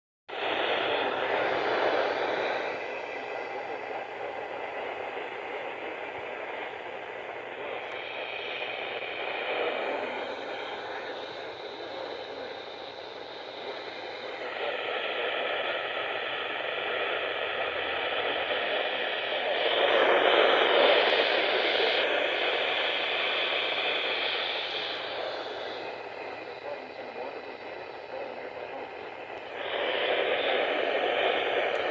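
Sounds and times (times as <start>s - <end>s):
radio static hiss: 0.3s - 31.9s
faint radio broadcast: 0.4s - 31.9s.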